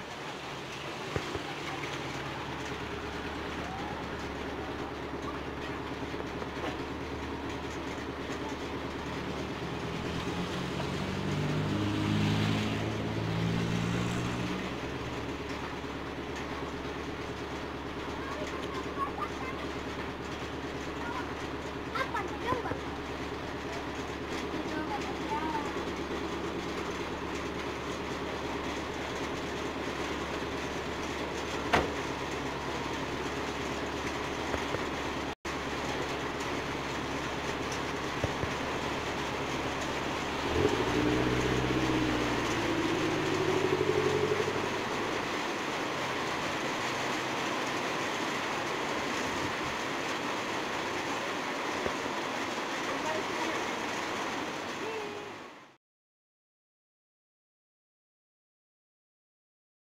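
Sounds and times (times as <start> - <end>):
heavy rain: 0.0 - 55.8
low engine drone: 0.0 - 55.8.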